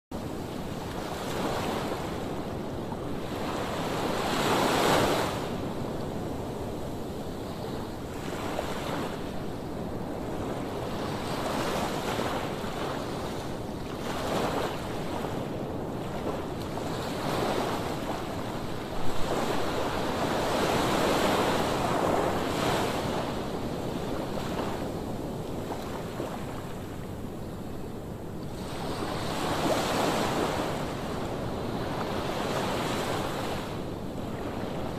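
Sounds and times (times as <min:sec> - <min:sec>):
sea waves breaking on shore: 0:00.2 - 0:27.9, 0:28.5 - 0:34.9
wind buffeting microphone: 0:00.2 - 0:34.9.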